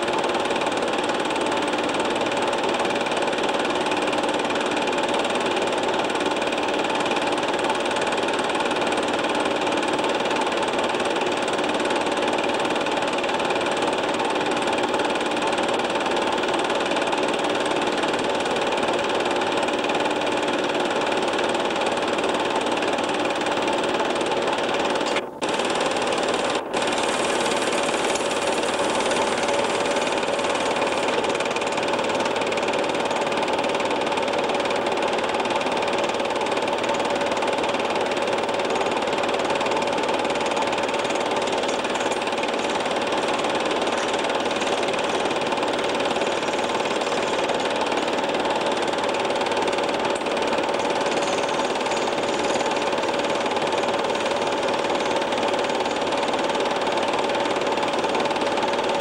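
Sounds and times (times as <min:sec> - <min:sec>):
film projector running: 0:00.0 - 0:59.0.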